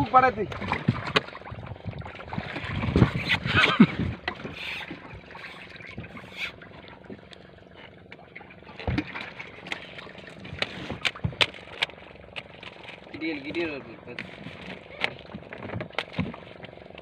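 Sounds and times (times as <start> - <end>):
boat and water noise: 0.0 - 17.0.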